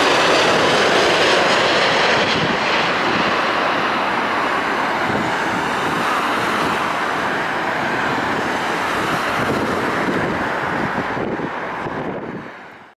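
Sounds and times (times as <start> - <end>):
jet engine roaring on landing: 0.0 - 12.9.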